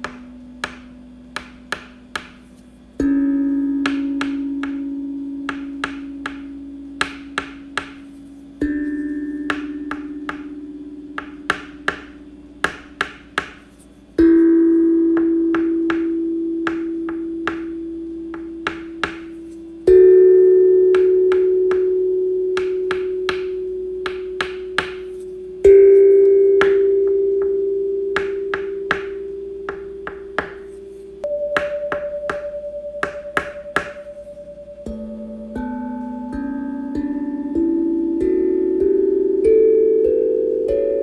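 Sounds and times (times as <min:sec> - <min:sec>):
ringing bell tone: 0:03.0 - 0:12.4, 0:14.2 - 0:41.0.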